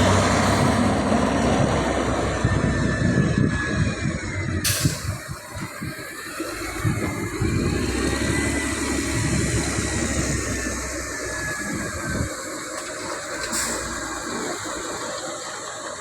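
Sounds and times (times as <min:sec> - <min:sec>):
high-pitched whine: 0:00.0 - 0:15.2
diesel engine running: 0:00.0 - 0:16.0.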